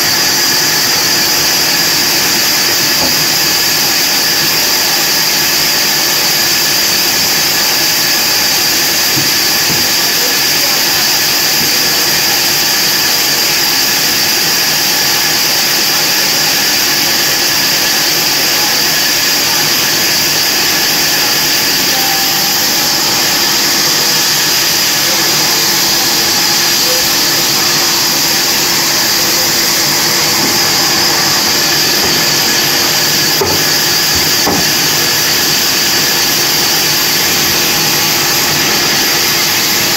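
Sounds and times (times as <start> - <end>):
bandsaw whining: 0.0 - 39.9.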